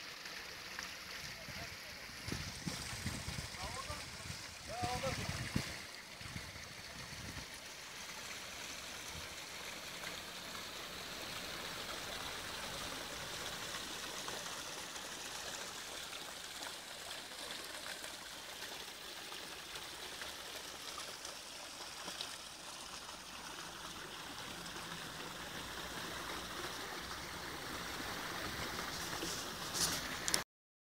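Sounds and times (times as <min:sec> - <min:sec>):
waterfall splashing: 0:00.0 - 0:30.4.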